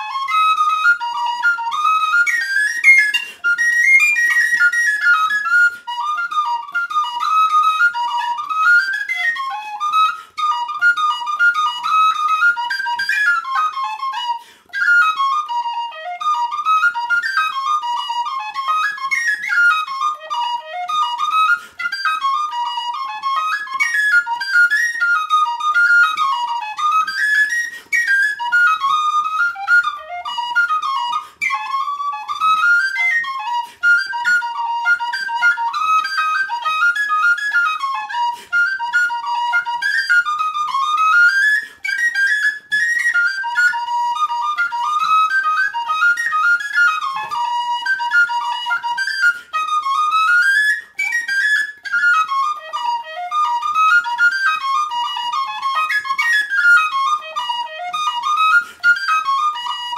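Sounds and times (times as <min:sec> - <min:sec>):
tin whistle playing a reel: 0:00.0 - 0:59.9.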